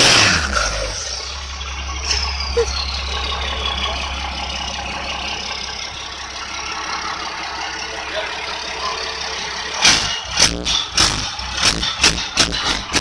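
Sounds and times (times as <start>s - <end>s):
engine revving: 0.0s - 13.0s
truck engine idling: 0.0s - 13.0s.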